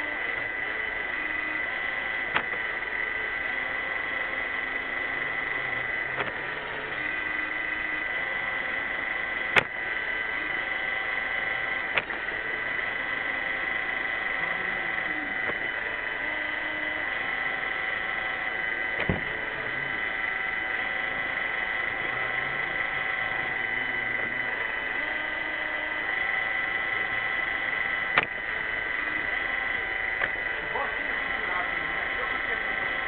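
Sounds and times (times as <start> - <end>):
robot vacuum whining: 0.0 - 33.0.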